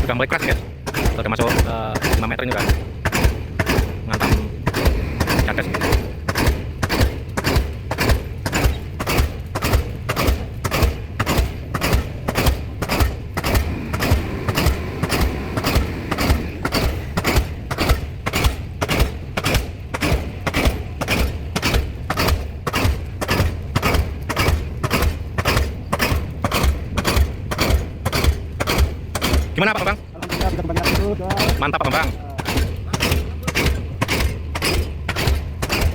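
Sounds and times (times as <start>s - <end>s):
pile hammer heavy strikes: 0.0s - 35.9s.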